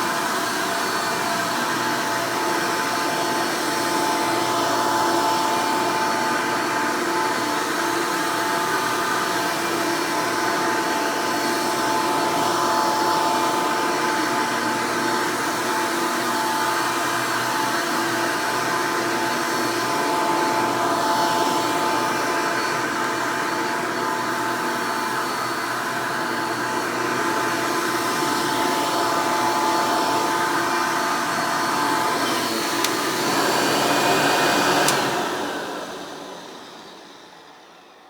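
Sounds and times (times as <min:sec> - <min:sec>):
upright vacuum cleaner running: 0:00.0 - 0:38.0.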